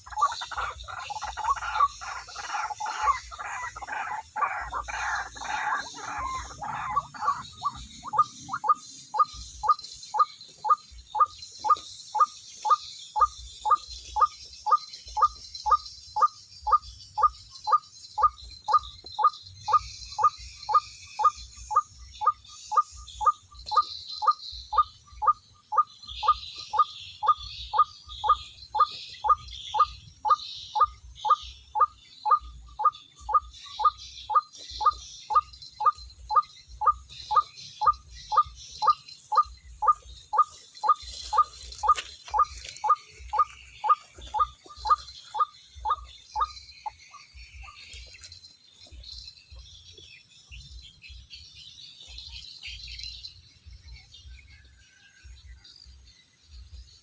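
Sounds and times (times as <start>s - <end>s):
waterhen calling: 0.0s - 47.8s.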